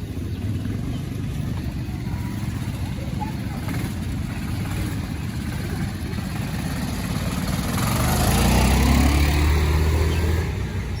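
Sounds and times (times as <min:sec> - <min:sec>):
quad bike engine revving: 0:00.4 - 0:11.0.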